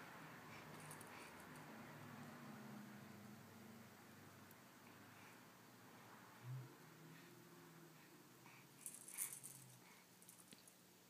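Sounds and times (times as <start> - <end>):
faint hiss: 0.0 - 11.0
faint low hum: 0.0 - 11.0.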